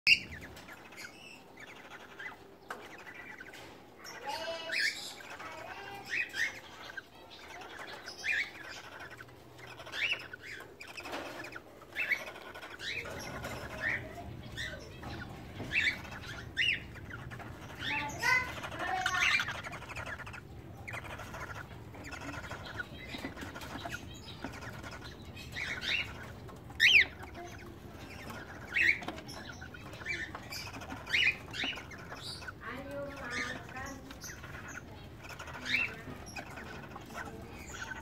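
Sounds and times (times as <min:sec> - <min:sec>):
bird chirps: 0:00.0 - 0:38.0
bird warbling: 0:00.1 - 0:38.0.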